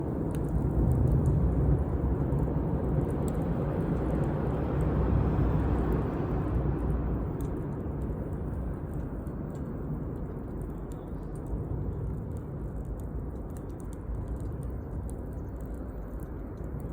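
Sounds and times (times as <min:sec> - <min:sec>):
campfire low rumble: 0:00.0 - 0:16.9
fire crackles: 0:00.0 - 0:16.9.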